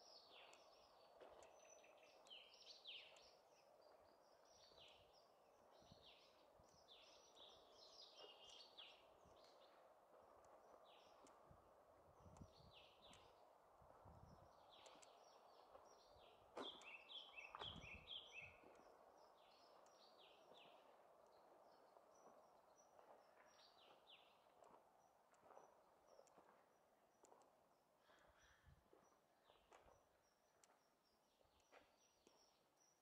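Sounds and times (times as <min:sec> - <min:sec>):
small birds chirping: 0:00.0 - 0:33.0
soft footsteps on forest path: 0:00.0 - 0:33.0.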